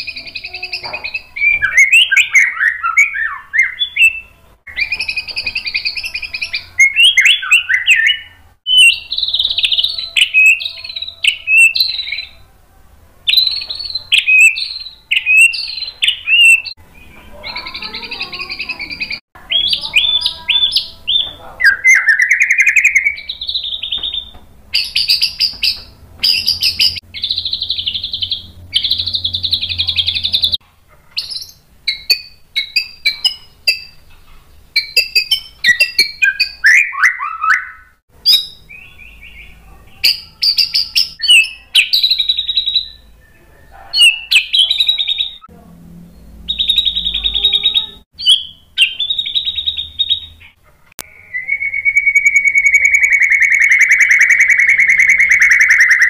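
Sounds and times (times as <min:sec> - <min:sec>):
bird whistling song: 0:00.0 - 0:12.4, 0:13.3 - 0:30.6, 0:31.2 - 0:34.1, 0:34.8 - 0:45.5, 0:46.1 - 0:56.0.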